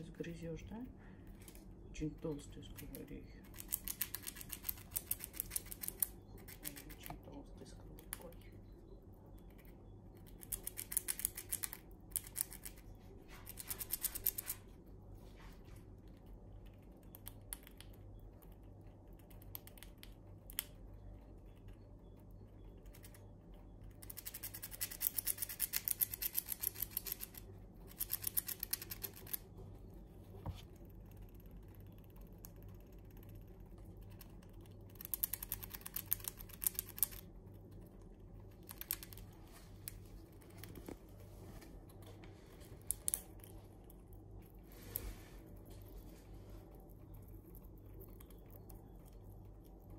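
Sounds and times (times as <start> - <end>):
squirrel crunching nut shells: 1.3 - 8.6, 9.3 - 14.8, 16.0 - 29.6, 30.7 - 41.2, 41.8 - 49.9.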